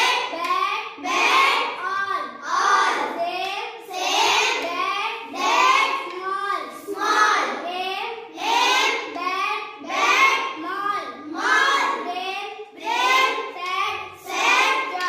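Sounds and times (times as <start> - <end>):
child reciting words: 0.0 - 15.0.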